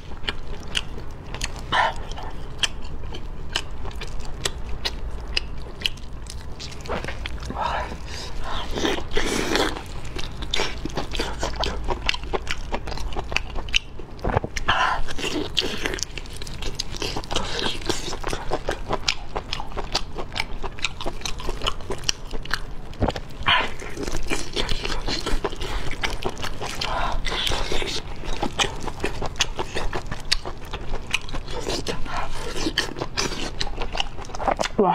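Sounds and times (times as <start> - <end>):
person chewing food: 0.0 - 34.8.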